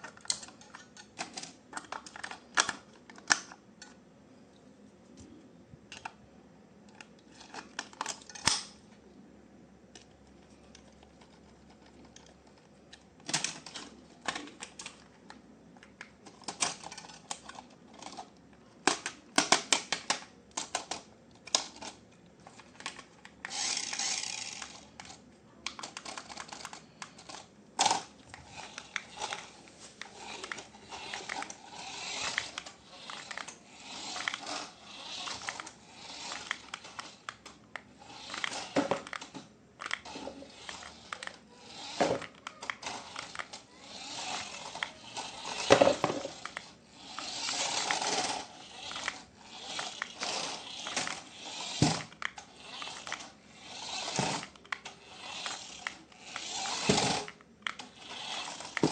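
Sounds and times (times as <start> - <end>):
plastic clicks and rattles: 0.0 - 4.0, 9.9 - 53.4, 54.0 - 58.9.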